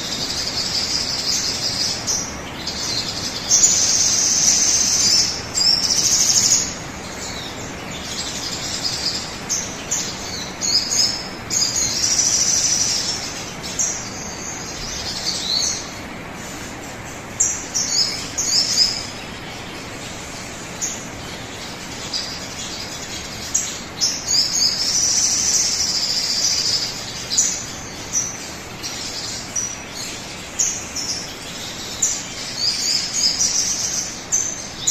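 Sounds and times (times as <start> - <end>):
bird chirps and trills: 0.0 - 34.9
steady background hiss: 0.0 - 34.9.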